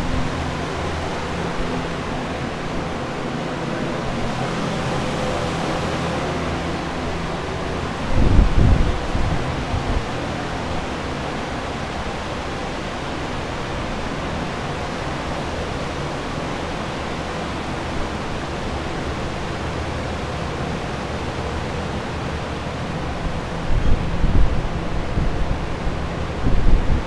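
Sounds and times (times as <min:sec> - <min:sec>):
air movers and dehumidifiers running: 0:00.0 - 0:27.0.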